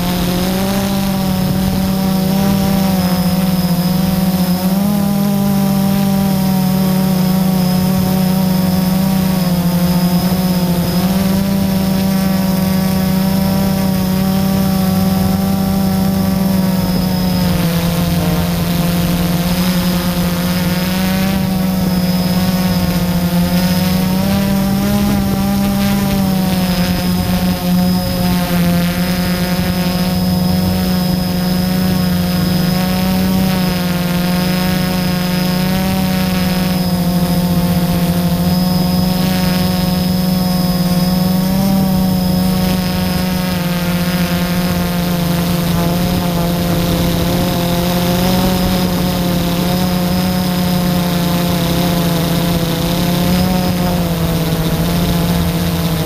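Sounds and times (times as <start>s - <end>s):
quadcopter motors droning: 0.0s - 56.0s.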